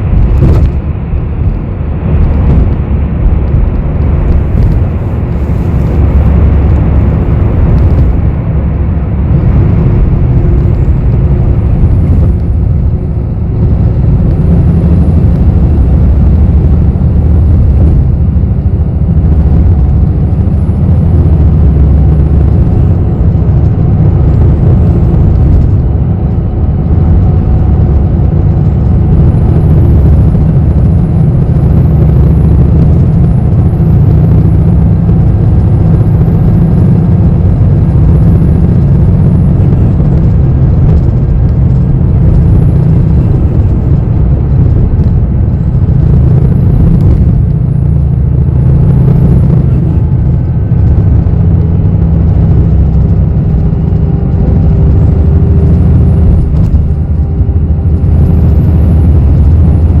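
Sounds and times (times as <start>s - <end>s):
bus engine and road rumble: 0.0s - 60.0s.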